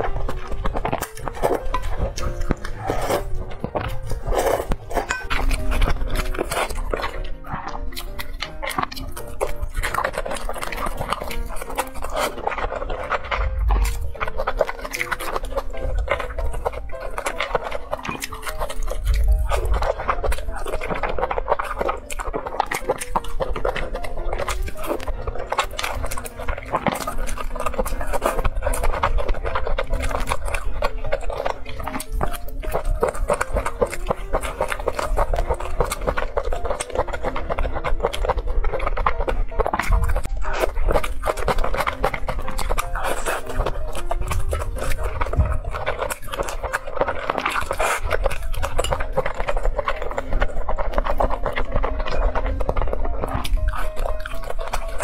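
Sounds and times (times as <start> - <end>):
slurping and chewing noodles: 0.0 - 55.0
wet mouth clicks: 0.0 - 55.0.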